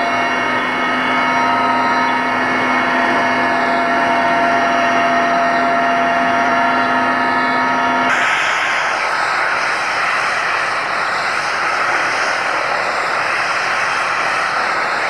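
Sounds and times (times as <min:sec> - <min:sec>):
helicopter whine and rush: 0:00.0 - 0:15.0.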